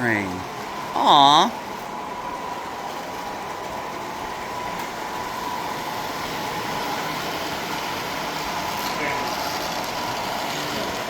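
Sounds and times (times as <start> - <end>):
model trains whirring: 0.0 - 11.0.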